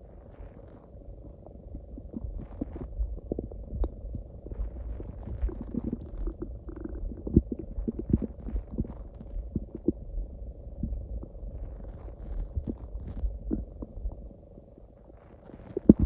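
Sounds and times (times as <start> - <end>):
stomach growling and gurgling: 0.0 - 16.0.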